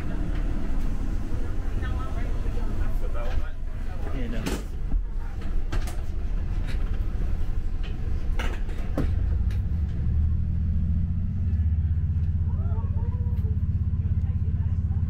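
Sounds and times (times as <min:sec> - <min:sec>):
train engine rumble: 0:00.0 - 0:15.0.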